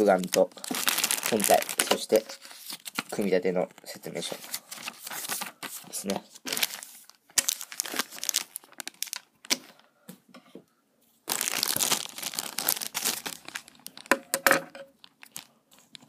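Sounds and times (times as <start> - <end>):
plastic bag crinkling: 0.0 - 9.8, 11.3 - 14.4, 15.0 - 16.0.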